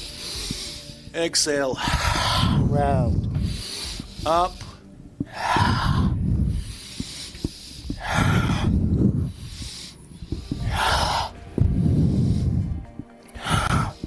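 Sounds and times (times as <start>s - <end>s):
deep breathing: 0.0s - 14.0s.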